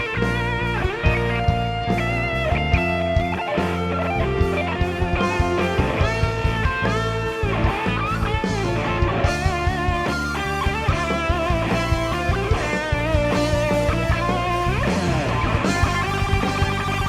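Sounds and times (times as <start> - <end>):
bass guitar: 0.0 - 17.0
electric guitar bending notes: 0.0 - 17.0
steady drum beat: 0.0 - 17.0.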